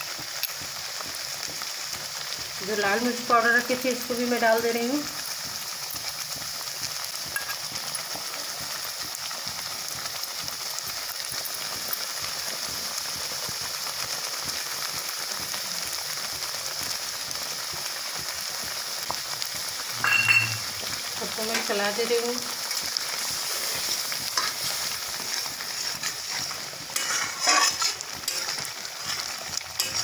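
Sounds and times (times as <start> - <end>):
puree simmering with popping bubbles: 0.0 - 30.0.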